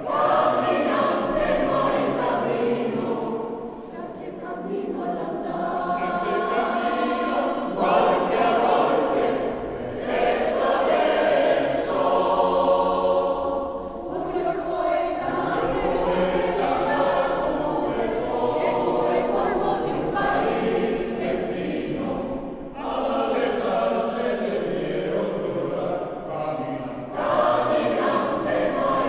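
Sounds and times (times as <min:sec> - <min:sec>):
mixed choir singing: 0:00.0 - 0:29.0.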